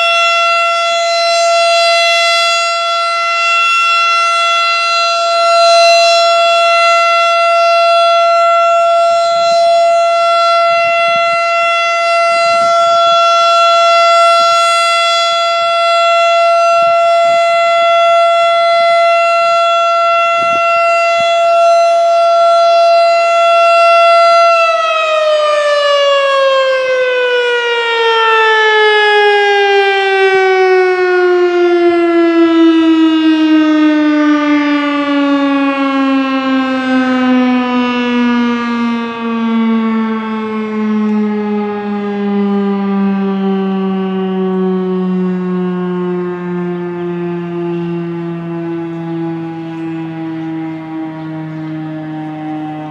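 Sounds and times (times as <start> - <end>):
tornado siren: 0.0 - 52.9.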